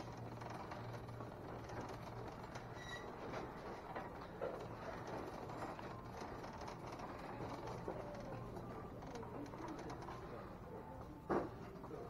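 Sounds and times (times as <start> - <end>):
light clicks and rustles: 0.0 - 12.0.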